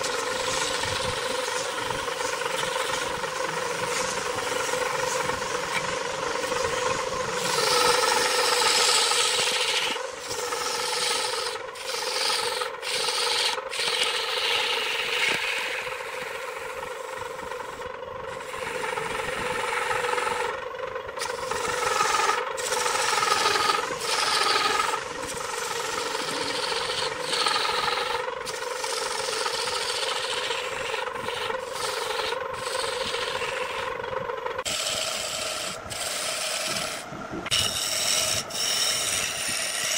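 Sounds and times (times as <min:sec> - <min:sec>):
turning tool cutting wood: 0:00.0 - 0:39.9
wood lathe humming: 0:00.0 - 0:39.9.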